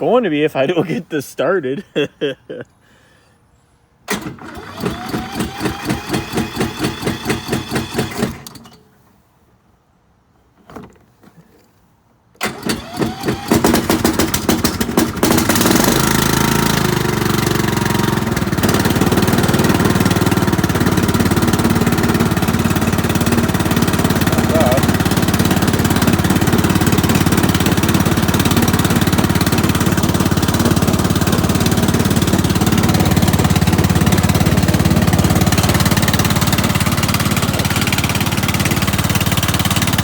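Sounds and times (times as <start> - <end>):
lawn mower engine cranking and starting: 4.0 - 9.1, 12.4 - 40.0.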